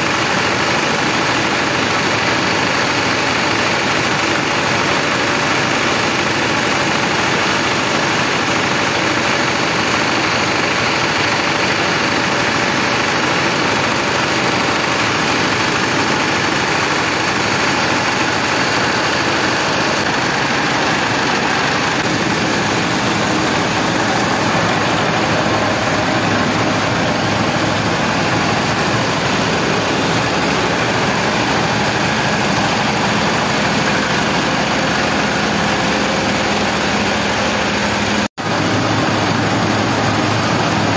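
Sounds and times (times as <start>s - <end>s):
rice mill running: 0.0s - 40.9s.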